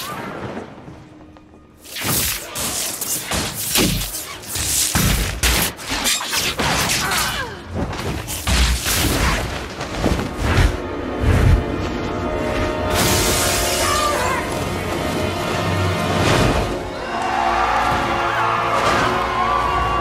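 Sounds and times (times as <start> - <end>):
film score: 0.0 - 20.0.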